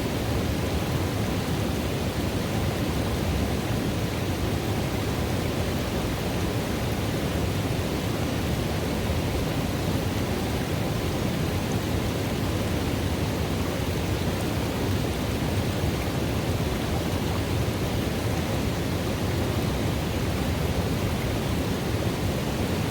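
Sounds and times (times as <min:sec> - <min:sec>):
river water rushing into a pool: 0:00.0 - 0:22.9.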